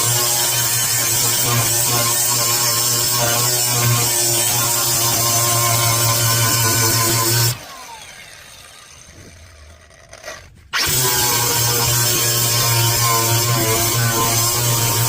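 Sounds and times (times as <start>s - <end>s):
angle grinder whine: 0.0s - 15.0s.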